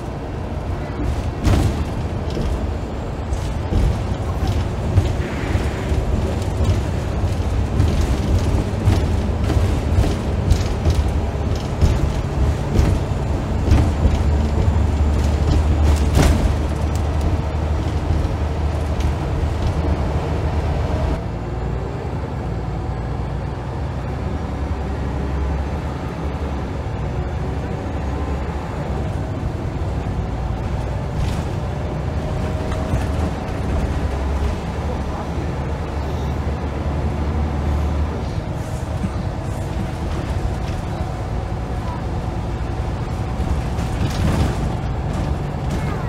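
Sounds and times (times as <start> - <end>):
bus diesel engine droning: 0.0 - 46.0.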